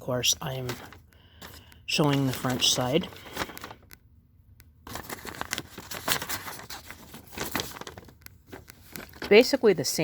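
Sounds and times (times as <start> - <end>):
paper rustling and crinkling: 0.1 - 4.0, 4.8 - 10.0.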